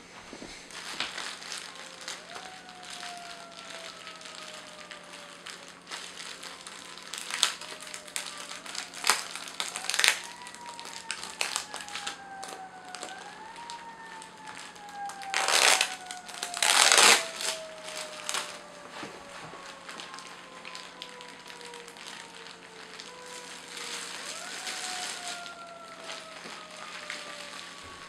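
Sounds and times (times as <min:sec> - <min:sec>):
bubble wrap crinkling: 0:00.0 - 0:28.0.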